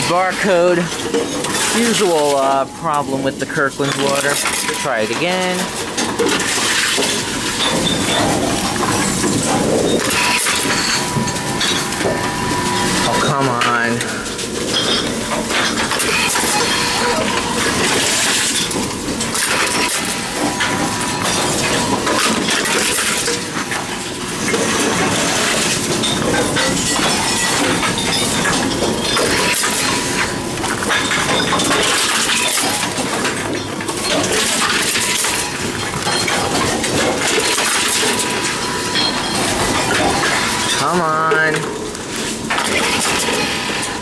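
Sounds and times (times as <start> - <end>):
cans and bottles clattering: 0.0 - 44.0.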